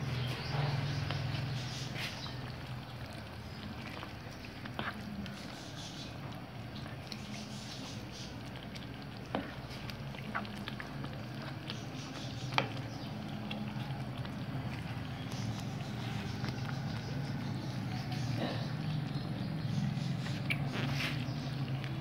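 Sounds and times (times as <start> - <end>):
soft wet stirring of spaghetti: 0.0 - 22.0.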